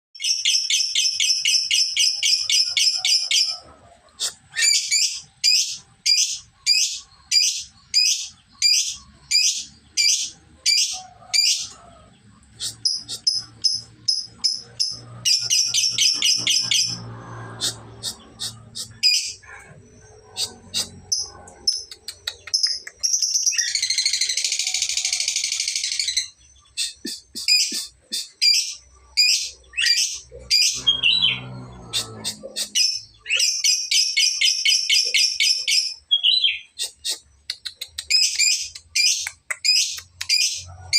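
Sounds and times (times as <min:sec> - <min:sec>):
lovebird chirping and trilling: 0:00.2 - 0:40.9.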